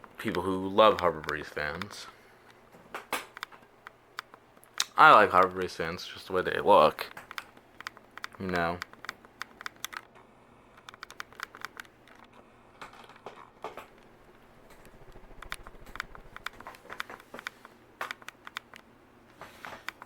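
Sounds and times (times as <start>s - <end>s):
faint low hum: 0.0s - 20.0s
light clicking and crackling: 0.0s - 20.0s.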